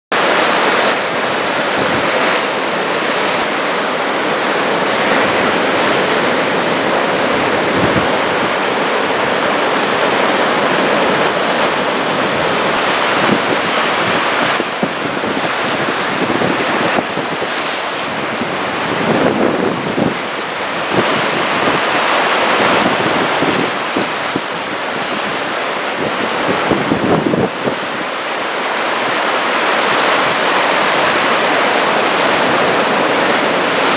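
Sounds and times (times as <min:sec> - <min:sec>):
surf breaking and washing in: 0:00.1 - 0:33.9
wind buffeting microphone: 0:00.2 - 0:33.9.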